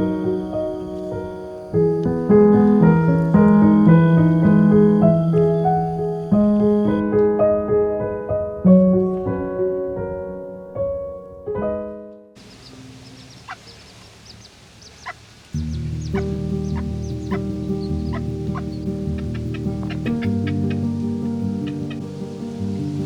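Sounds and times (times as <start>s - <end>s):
piano melody: 0.0s - 13.6s, 15.6s - 23.0s.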